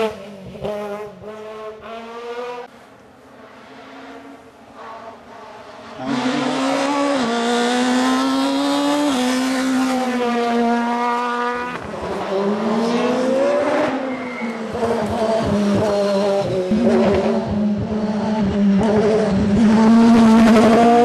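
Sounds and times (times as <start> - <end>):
race car engine at high revs: 0.0 - 2.7, 3.3 - 21.0
race car accelerating: 0.0 - 21.0.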